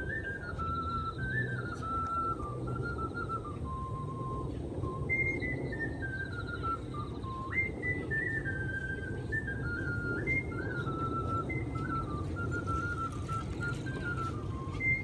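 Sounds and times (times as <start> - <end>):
ocarina melody: 0.0 - 15.0
steady low rumble: 0.0 - 15.0.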